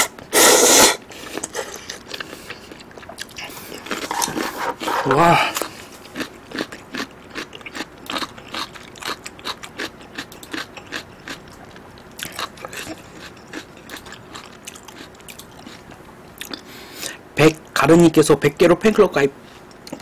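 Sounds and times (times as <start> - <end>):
wet chewing of noodles: 0.1 - 17.2.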